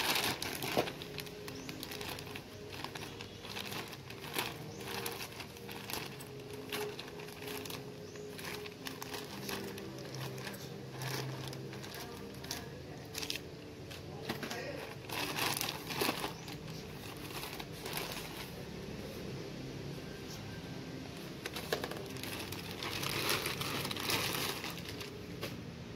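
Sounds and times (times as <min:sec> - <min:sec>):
plastic bag crinkling and tearing: 0:00.0 - 0:18.6, 0:21.4 - 0:25.4.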